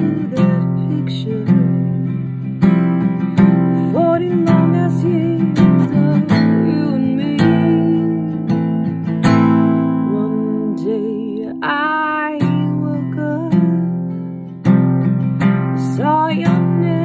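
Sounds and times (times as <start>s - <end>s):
woman singing: 0.0s - 9.0s, 9.8s - 14.6s, 15.4s - 17.0s
strummed acoustic guitar: 0.0s - 17.0s.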